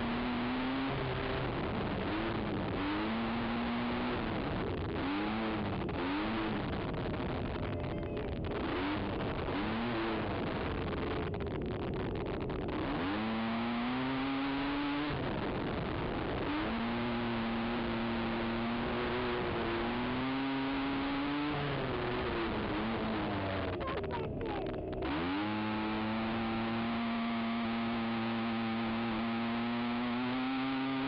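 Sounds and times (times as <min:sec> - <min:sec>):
constant rushing noise: 0:00.0 - 0:13.6, 0:14.7 - 0:30.0
atv engine revving: 0:00.0 - 0:31.0.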